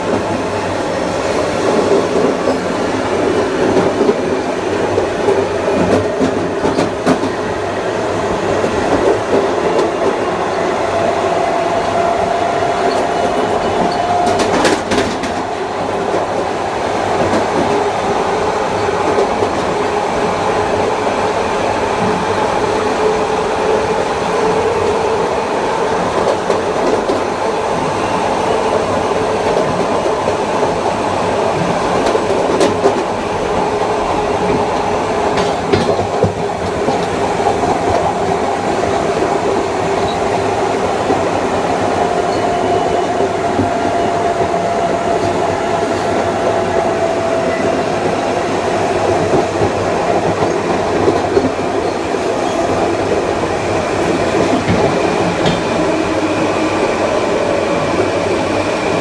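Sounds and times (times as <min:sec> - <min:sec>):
wheel and rail rumble: 0:00.0 - 0:59.0.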